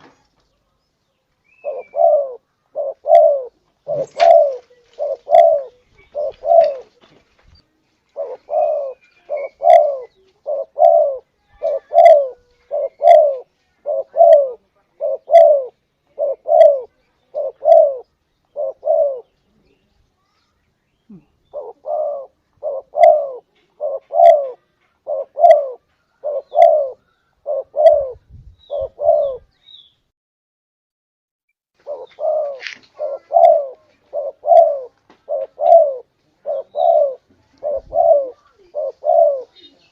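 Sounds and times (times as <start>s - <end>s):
dove cooing: 1.5s - 7.1s, 8.1s - 19.6s, 21.1s - 29.5s, 31.8s - 39.9s.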